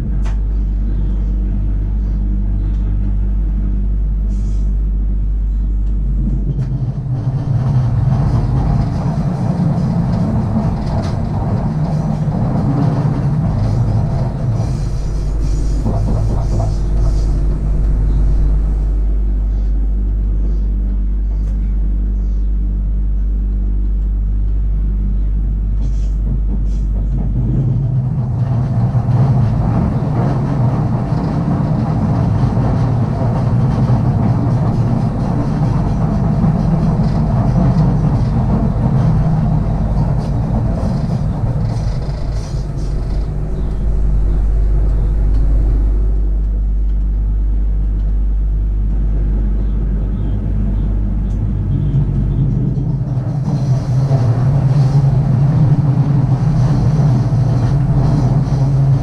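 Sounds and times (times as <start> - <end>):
electric train hum: 0.0 - 59.0
wheels rumbling on rails: 0.0 - 59.0.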